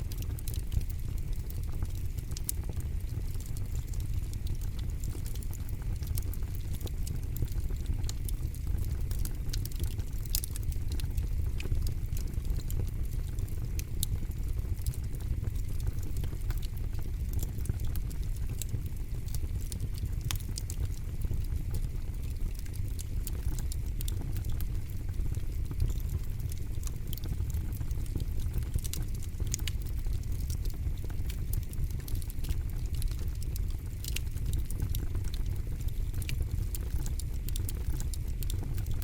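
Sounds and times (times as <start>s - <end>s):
burning wood crackling and popping: 0.0s - 39.0s
campfire flames rumbling: 0.0s - 39.0s.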